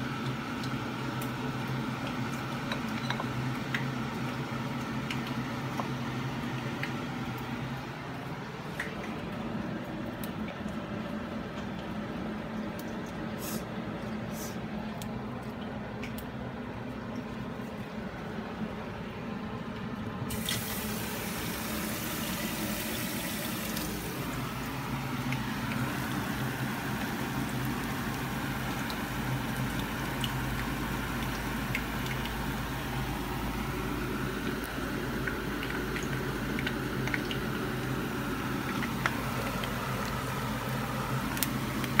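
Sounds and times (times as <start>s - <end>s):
shrimp frying in oil: 0.0s - 13.6s, 20.2s - 42.0s.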